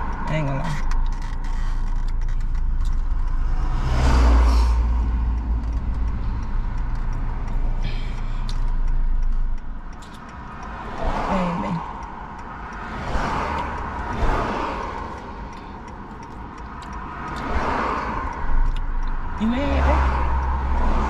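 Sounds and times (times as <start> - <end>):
car driving rumble: 0.0 - 21.0.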